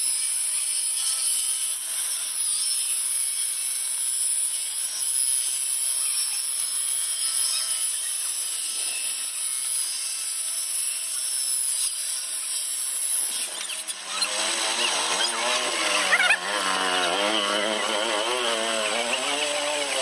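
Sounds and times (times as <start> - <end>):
table saw ripping a board: 0.0 - 20.0.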